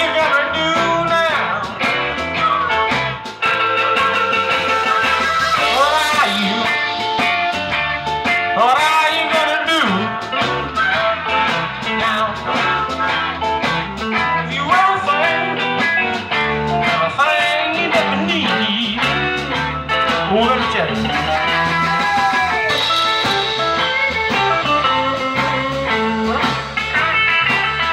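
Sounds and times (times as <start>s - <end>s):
electric guitar lead lines: 0.0s - 27.9s
live blues band playing: 0.0s - 27.9s.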